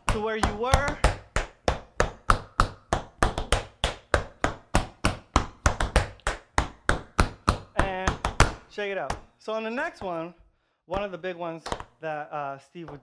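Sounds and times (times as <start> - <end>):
tap shoes on wooden floor: 0.0 - 10.2, 11.0 - 12.0.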